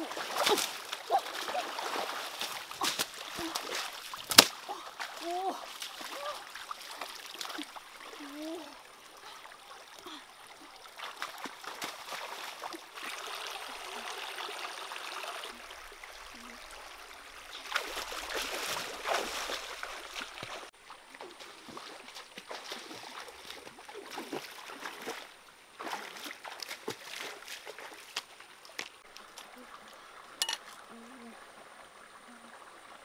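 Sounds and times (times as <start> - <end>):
feet splashing through water: 0.0 - 13.5, 17.3 - 30.8
stream trickling over rocks: 0.0 - 33.0.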